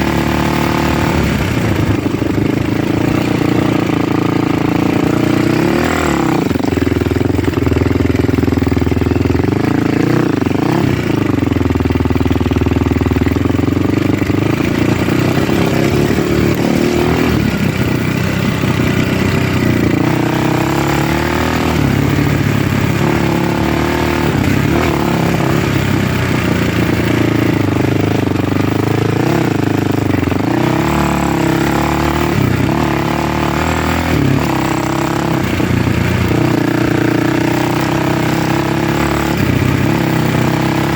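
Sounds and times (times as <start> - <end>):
vehicle engine revving while driving: 0.0 - 40.9.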